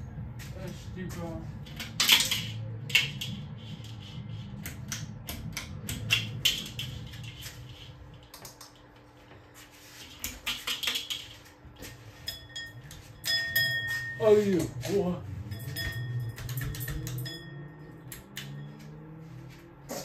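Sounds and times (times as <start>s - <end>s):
ceiling fan motor hum: 0.0s - 20.0s.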